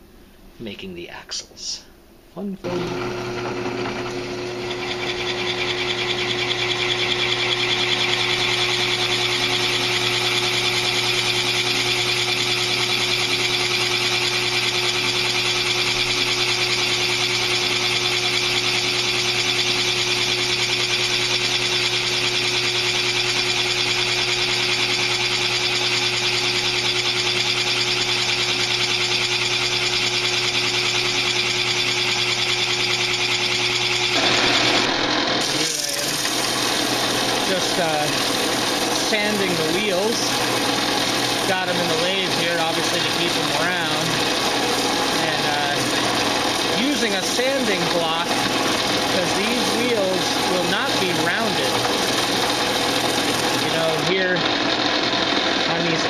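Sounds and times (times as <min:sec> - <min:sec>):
drill bit boring wood: 0:02.6 - 0:56.0
drill press motor hum: 0:02.6 - 0:56.0.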